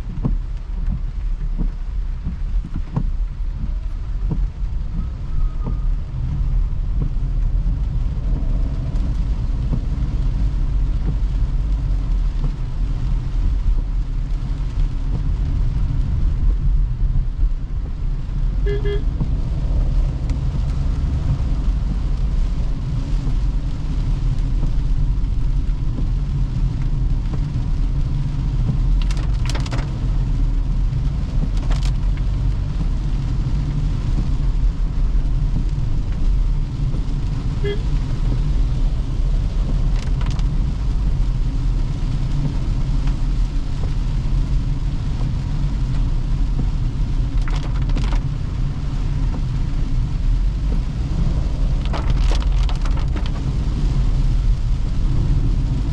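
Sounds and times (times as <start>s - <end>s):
tyres rumbling on wet road: 0.0s - 55.9s.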